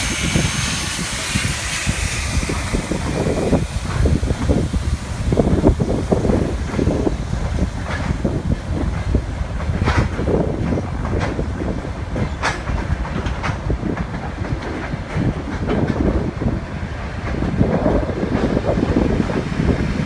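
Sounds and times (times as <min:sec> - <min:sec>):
train rumbling along track: 0:00.0 - 0:20.0
wheels clicking over rail joints: 0:01.0 - 0:19.4.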